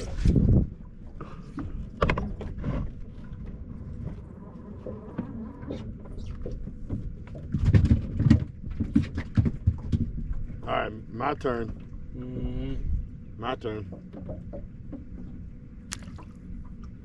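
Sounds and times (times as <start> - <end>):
steady low rumble: 0.0 - 8.9, 9.5 - 17.0.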